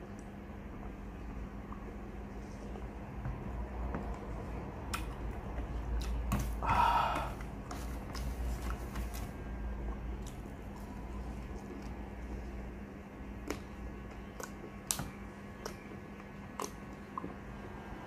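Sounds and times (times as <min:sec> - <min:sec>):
man chewing food: 0:00.0 - 0:17.9
steady low hum: 0:00.0 - 0:18.0.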